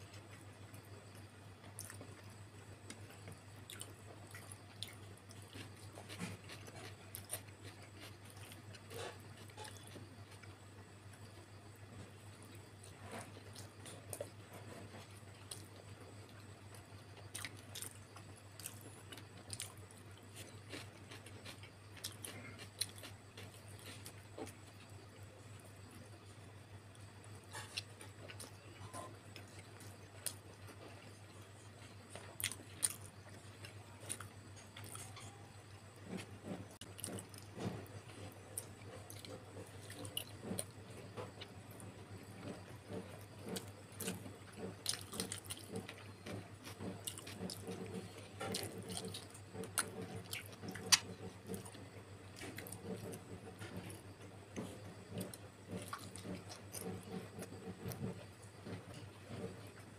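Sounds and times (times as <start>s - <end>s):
chewing with wet mouth smacks: 0.2s - 10.5s, 12.4s - 24.9s, 27.5s - 35.4s, 36.0s - 54.0s, 54.6s - 59.8s.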